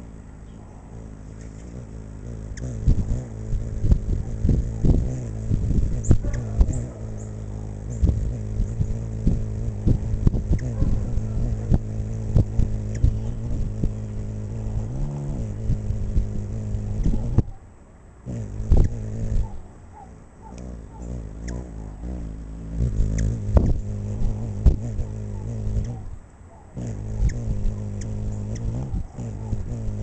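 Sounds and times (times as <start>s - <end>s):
hummingbird wings humming: 0.0s - 30.0s.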